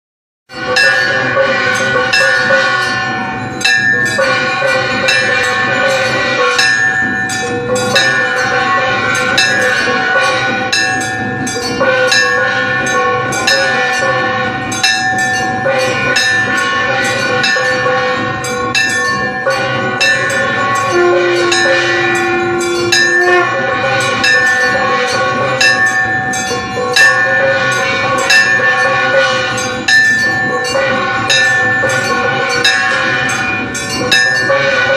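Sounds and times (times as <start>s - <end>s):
low held tone: 0.5s - 34.9s
temple bells and gongs ringing: 0.5s - 34.9s.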